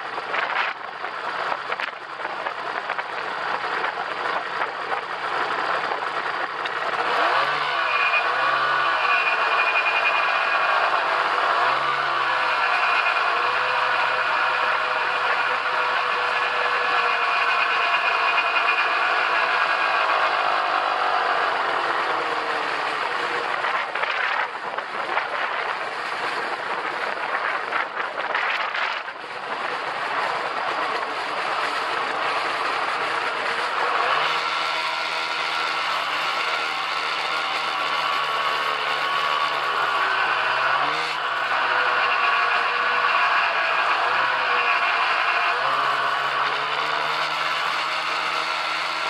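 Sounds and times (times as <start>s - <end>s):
snowmobile engine running: 0.0s - 49.0s.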